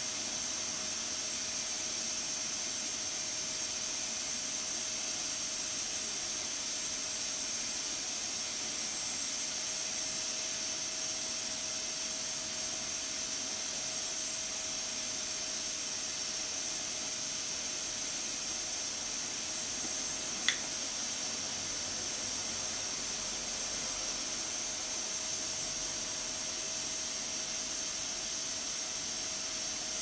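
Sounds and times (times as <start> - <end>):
pressure cooker hissing: 0.0 - 30.0.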